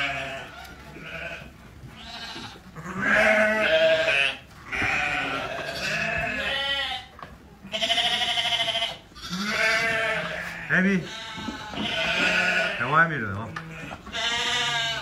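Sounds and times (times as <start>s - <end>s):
sheep bleating: 0.0s - 15.0s.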